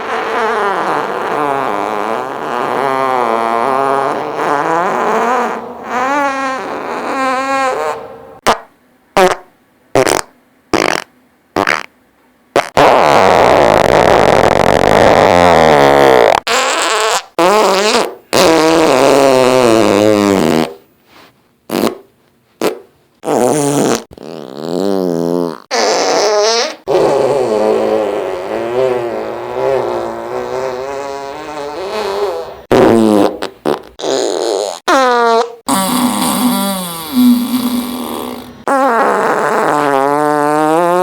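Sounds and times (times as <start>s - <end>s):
fart sound effects: 0.0s - 20.8s, 21.7s - 41.0s.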